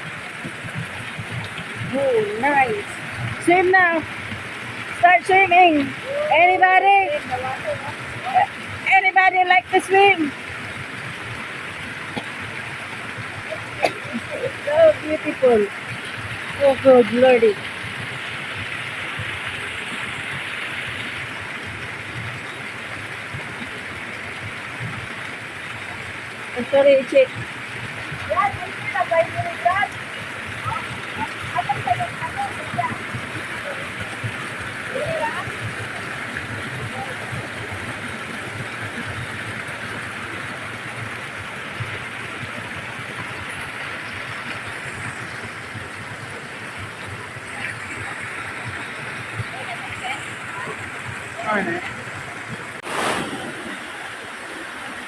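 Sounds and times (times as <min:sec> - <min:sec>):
waterfall and stream flowing: 0:00.0 - 0:55.0.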